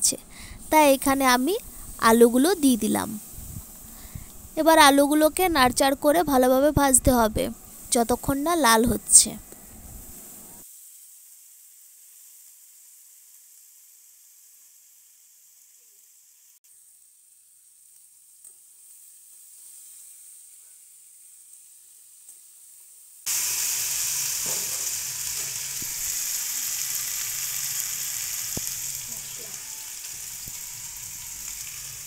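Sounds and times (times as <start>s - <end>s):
potatoes sizzling in oil: 0.0s - 32.0s.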